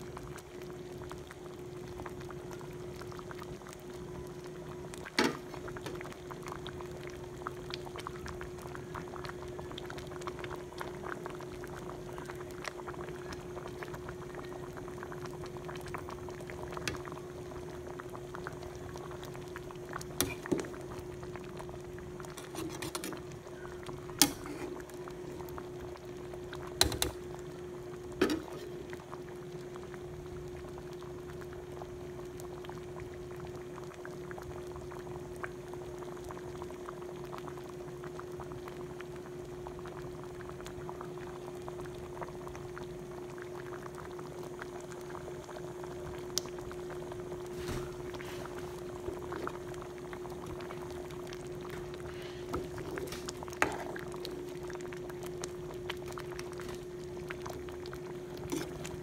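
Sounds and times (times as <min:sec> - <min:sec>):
soup bubbling: 0:00.0 - 0:59.0.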